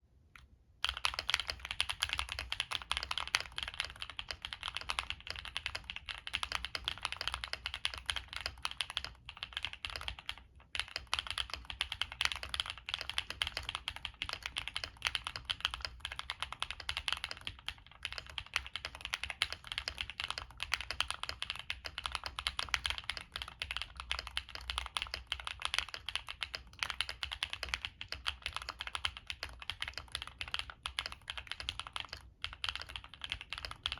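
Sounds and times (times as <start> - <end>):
fast typing on mechanical keyboard: 0.8 - 33.9.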